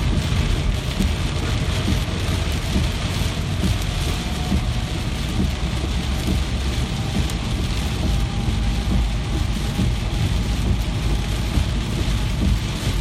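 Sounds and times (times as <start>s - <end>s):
deep low rumble: 0.0s - 13.0s
steady rainfall: 0.0s - 13.0s.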